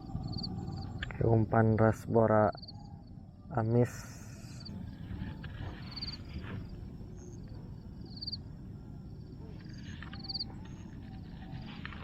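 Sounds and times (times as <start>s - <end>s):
low steady rumble: 0.0s - 12.0s
small animal pulsed trills: 0.0s - 12.0s.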